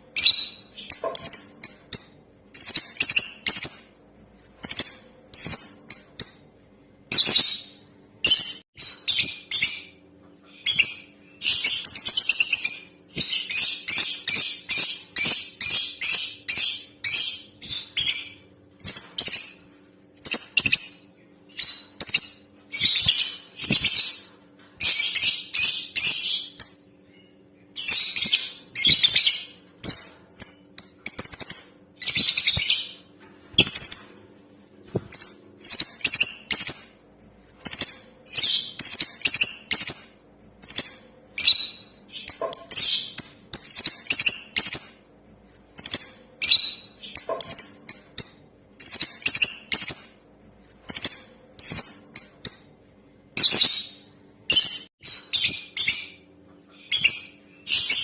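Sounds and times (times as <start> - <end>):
lovebird shrill chirps: 0.2 - 4.0, 7.1 - 27.0, 27.8 - 33.0, 33.6 - 34.3, 35.1 - 45.2, 45.8 - 50.3, 53.4 - 58.0.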